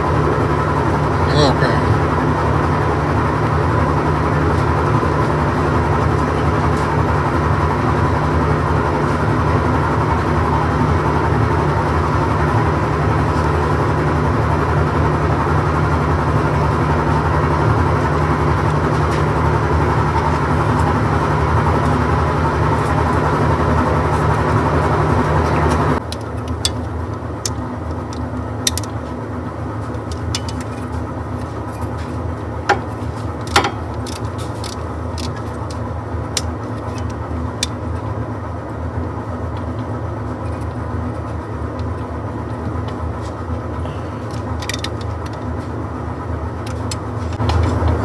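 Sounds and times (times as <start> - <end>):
machine hum with thin whine: 0.0 - 48.0.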